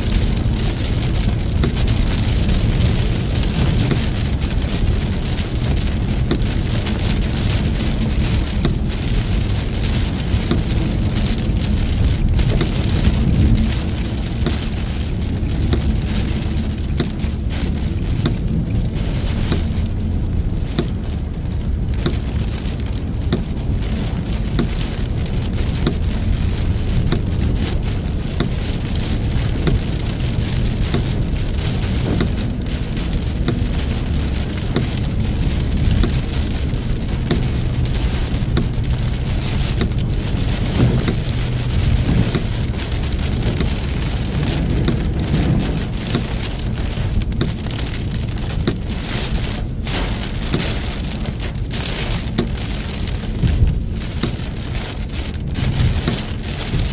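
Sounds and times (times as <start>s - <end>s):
heavy rain on car: 0.0s - 56.9s.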